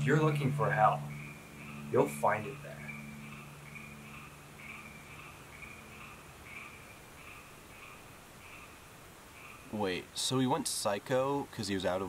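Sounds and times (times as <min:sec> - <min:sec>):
frogs chirping: 0:00.0 - 0:10.6.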